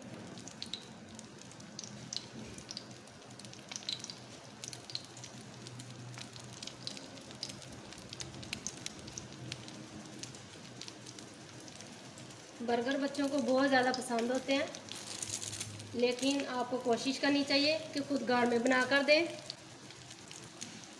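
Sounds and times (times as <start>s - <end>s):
patties sizzling in hot oil: 0.0s - 20.9s.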